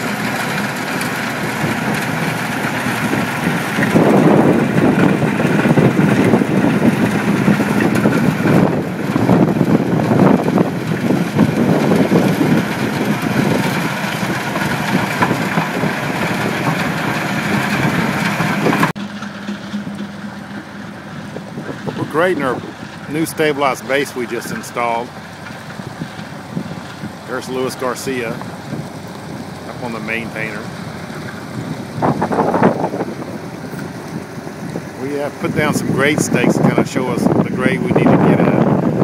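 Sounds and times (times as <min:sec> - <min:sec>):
diesel engine running under load: 0:00.0 - 0:39.0
motor grader engine: 0:00.0 - 0:39.0
rotor grinding crushed concrete: 0:00.0 - 0:39.0.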